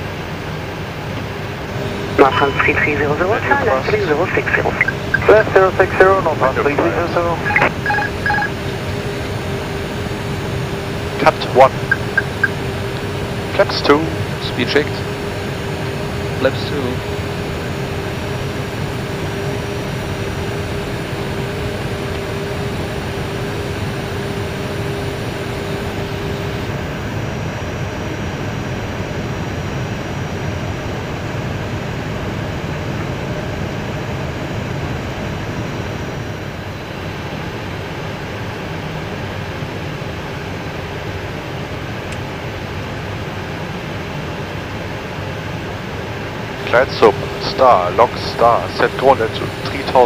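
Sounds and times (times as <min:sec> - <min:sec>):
airflow and air conditioning rush: 0:00.0 - 0:28.1, 0:31.3 - 0:50.0
steady hum: 0:00.0 - 0:50.0.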